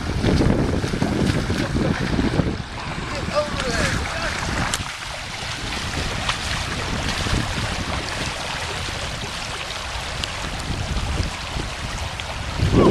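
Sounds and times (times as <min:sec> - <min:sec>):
creek rushing: 0:00.0 - 0:12.9
wind buffeting microphone: 0:00.0 - 0:12.9.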